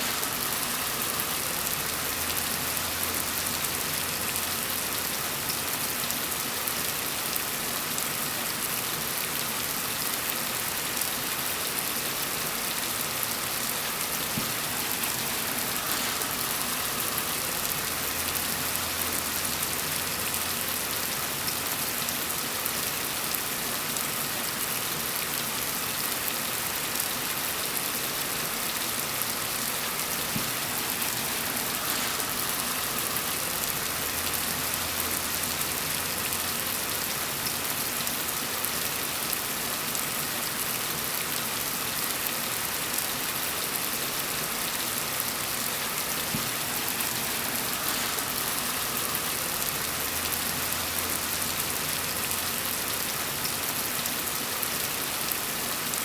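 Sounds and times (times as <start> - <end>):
gentle rain pattering: 0.0 - 56.0.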